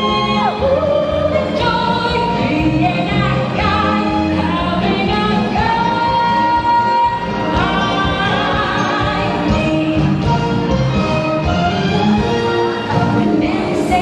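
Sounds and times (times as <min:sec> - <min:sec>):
woman singing with music: 0:00.0 - 0:14.0.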